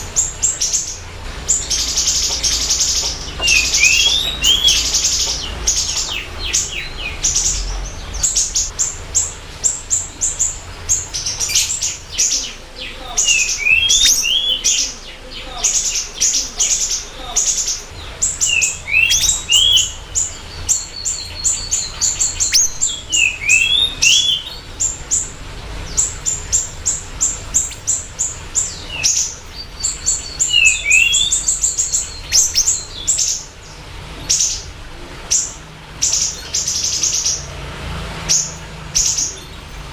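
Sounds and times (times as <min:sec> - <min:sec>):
songbird high sharp chirps: 0:00.0 - 0:39.9.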